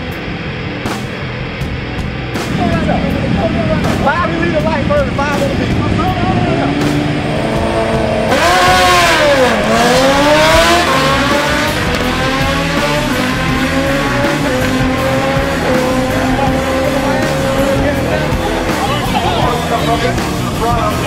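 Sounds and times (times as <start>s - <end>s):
motorcycle engine revving hard: 2.4s - 21.0s.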